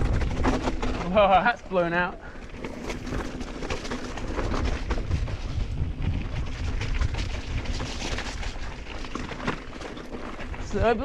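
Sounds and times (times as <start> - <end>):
bike clattering over rough ground: 0.0 - 11.0
tyres rumbling on dirt: 0.0 - 11.0
wind buffeting microphone: 0.0 - 11.0.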